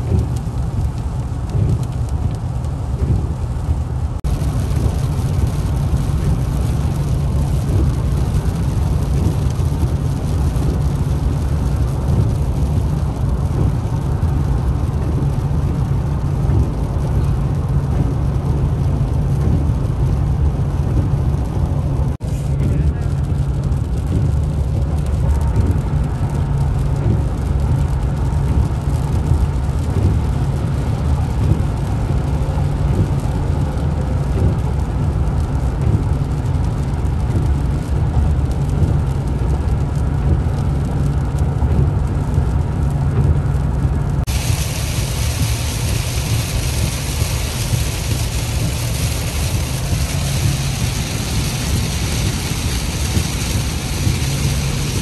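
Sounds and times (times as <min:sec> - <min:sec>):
rain and road spray hiss: 0:00.0 - 0:55.0
road and tyre noise in car: 0:00.0 - 0:55.0.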